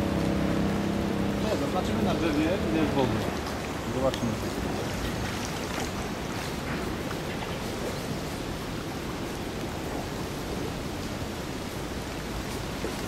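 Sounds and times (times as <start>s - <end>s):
light rain: 0.0s - 13.0s
water washing around boat: 0.0s - 13.0s.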